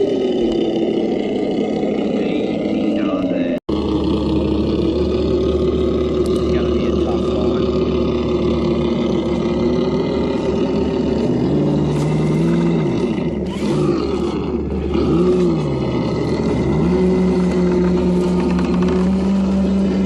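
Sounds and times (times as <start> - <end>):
toy car electric motor whining: 3.8 - 20.0.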